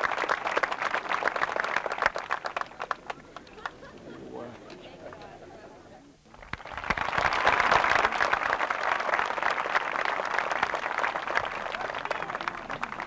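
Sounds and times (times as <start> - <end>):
crowd applauding: 0.0 - 5.3, 6.3 - 13.0.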